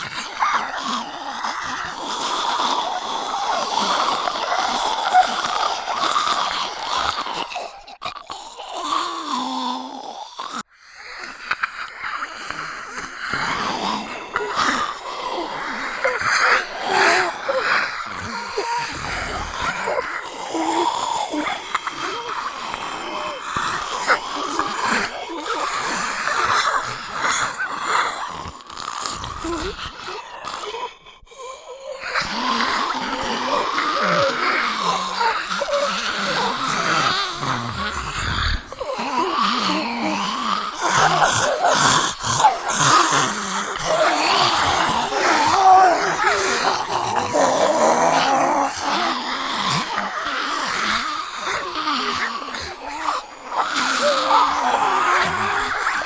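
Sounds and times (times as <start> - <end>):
person making zombie groans: 0.0 - 56.0.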